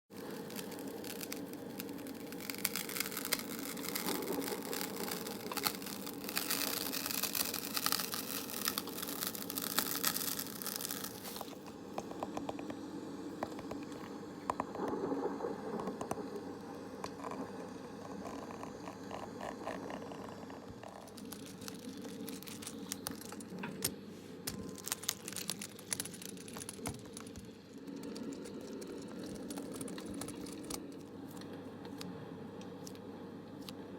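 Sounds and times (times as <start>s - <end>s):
crinkling and scratching: 0.1s - 12.8s, 13.4s - 31.5s
low background hum: 0.1s - 33.9s.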